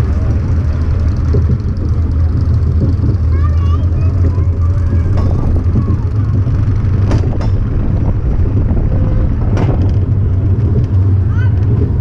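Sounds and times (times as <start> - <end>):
roller coaster wheels rumbling: 0.0 - 12.0
sharp track clacks: 0.0 - 12.0.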